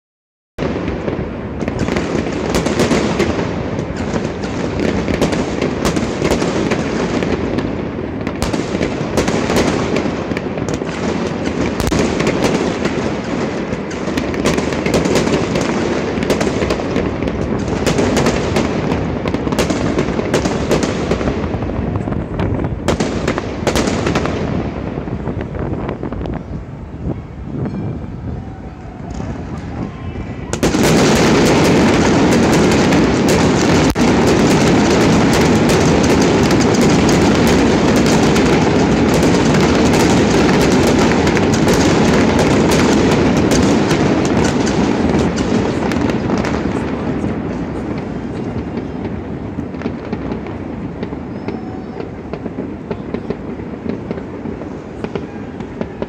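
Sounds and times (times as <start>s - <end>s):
fireworks bangs and crackling: 0.6s - 56.0s.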